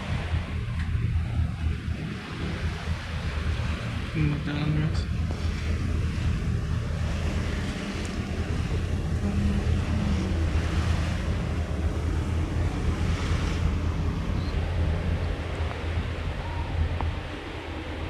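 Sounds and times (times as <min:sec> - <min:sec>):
rushing wind and water: 0:00.0 - 0:18.0
ship engine drone: 0:00.0 - 0:18.0
wind buffeting microphone: 0:00.0 - 0:18.0.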